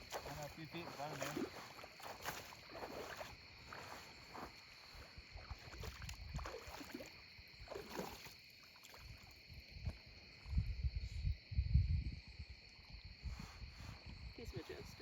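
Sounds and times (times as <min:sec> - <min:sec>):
high continuous insect trills: 0:00.0 - 0:15.0
insect chorus: 0:00.0 - 0:15.0.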